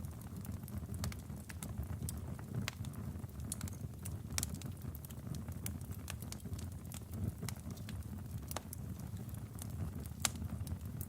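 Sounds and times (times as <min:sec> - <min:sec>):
fire crackles and pops: 0:00.0 - 0:11.0.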